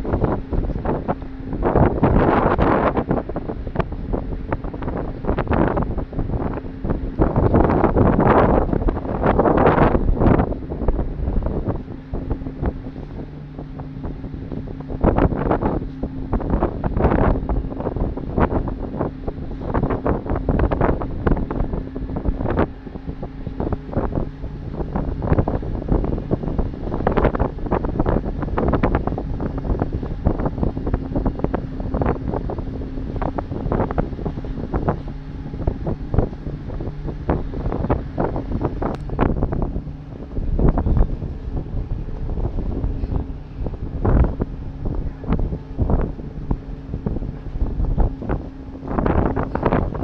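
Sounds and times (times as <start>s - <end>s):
low hum of ship engines: 0.0s - 50.0s
wind buffeting microphone: 0.0s - 50.0s.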